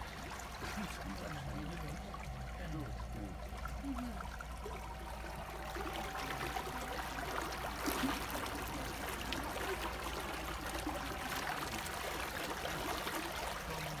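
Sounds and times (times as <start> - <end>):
water rushing along boat: 0.0 - 14.0.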